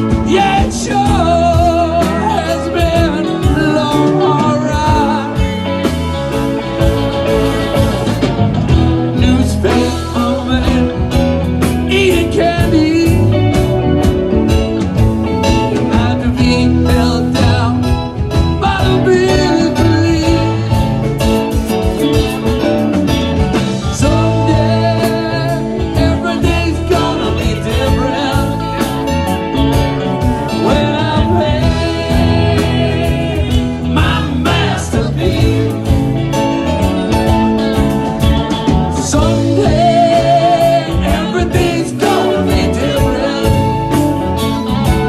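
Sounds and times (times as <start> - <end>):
live country rock band: 0.0 - 45.0
steady drum beat: 0.0 - 45.0.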